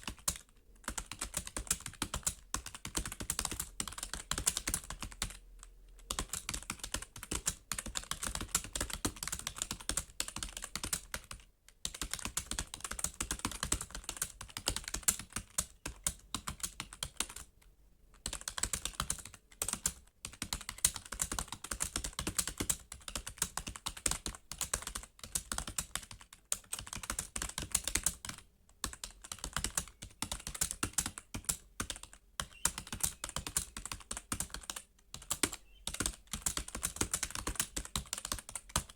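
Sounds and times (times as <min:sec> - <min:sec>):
typing on keyboard: 0:00.0 - 0:38.9.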